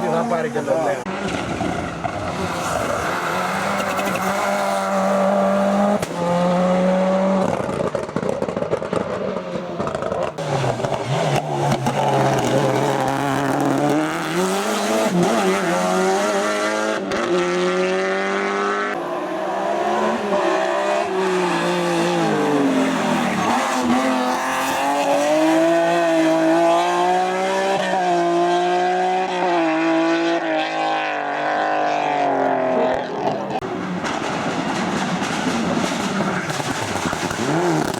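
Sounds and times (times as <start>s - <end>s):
race car engine revving: 0.0s - 37.9s.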